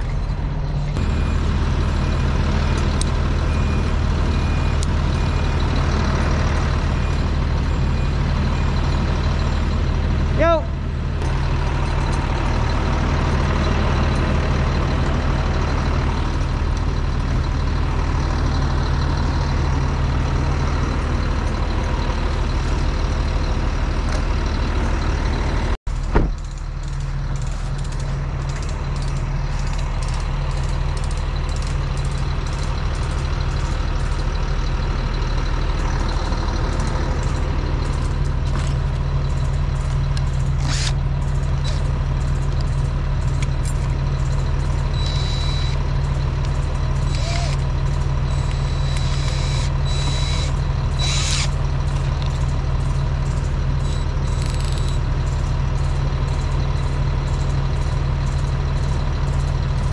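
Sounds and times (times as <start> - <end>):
truck engine droning: 0.0 - 59.9.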